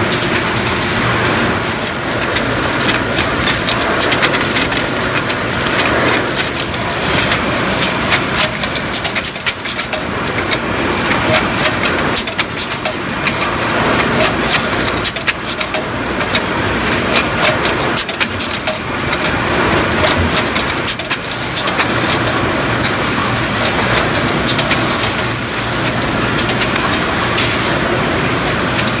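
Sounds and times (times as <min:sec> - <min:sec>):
packaging machine running: 0:00.0 - 0:29.0
rapid clicking and clacking: 0:00.0 - 0:29.0.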